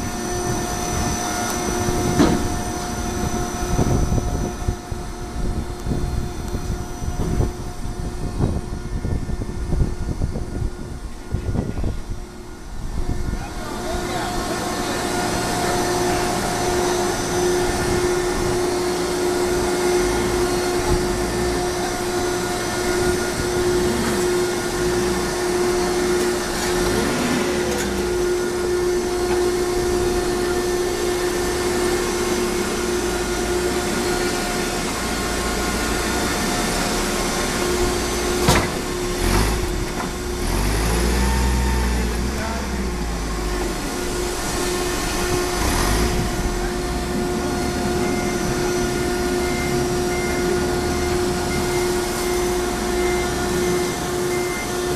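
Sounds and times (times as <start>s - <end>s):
baling machine humming: 0.0s - 54.9s.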